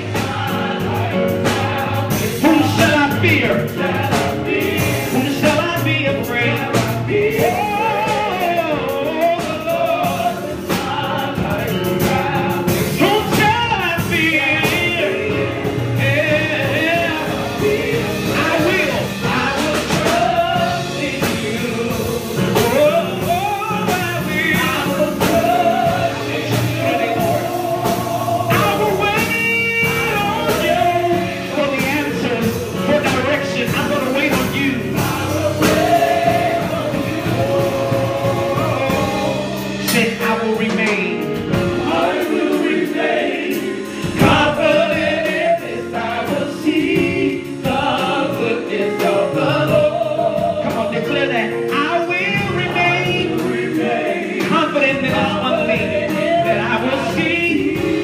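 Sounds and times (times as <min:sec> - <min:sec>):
electric keyboard: 0:00.0 - 0:58.0
group singing gospel: 0:00.0 - 0:58.0.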